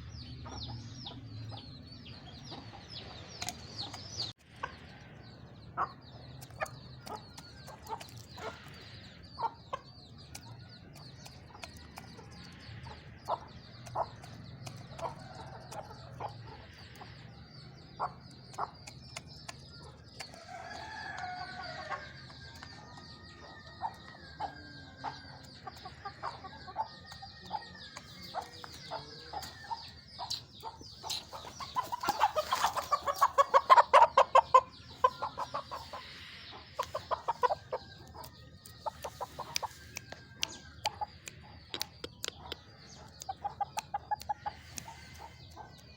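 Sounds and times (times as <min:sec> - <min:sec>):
birds calling: 0:00.0 - 0:45.9.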